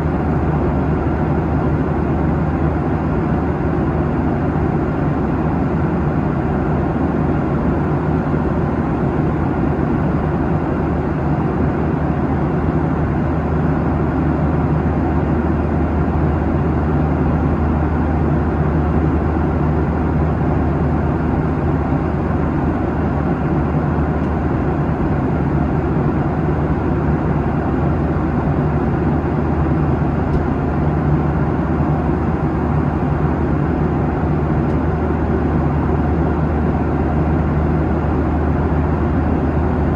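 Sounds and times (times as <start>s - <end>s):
airplane cabin engine roar: 0.0s - 39.9s.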